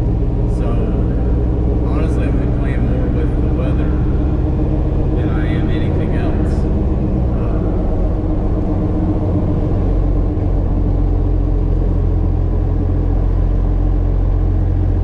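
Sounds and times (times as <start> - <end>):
diesel engine droning while driving: 0.0 - 15.0.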